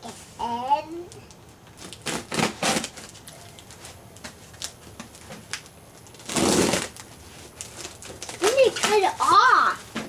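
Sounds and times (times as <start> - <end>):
package scraping rustles: 1.7 - 10.0.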